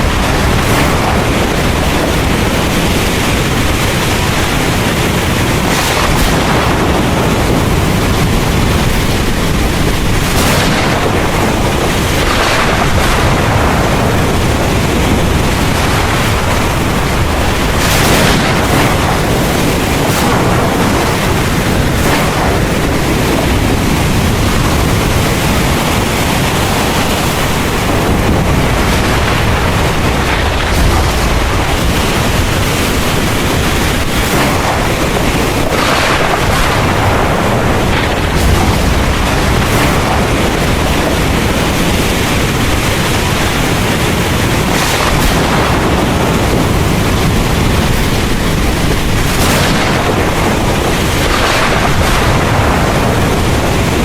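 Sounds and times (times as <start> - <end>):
deep thunder rumble: 0.0 - 54.0
heavy rain pouring: 0.0 - 54.0.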